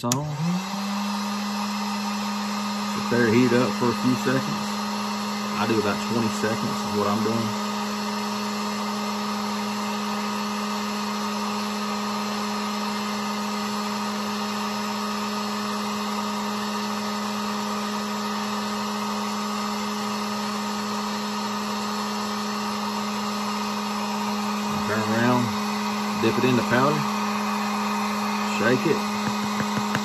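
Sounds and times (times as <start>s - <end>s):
heat gun fan whirring: 0.0s - 30.0s.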